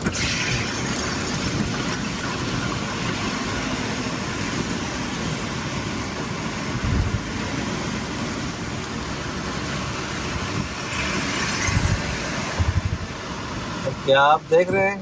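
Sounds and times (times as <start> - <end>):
tyre hiss on wet road: 0.0 - 14.6
rain: 0.0 - 15.0.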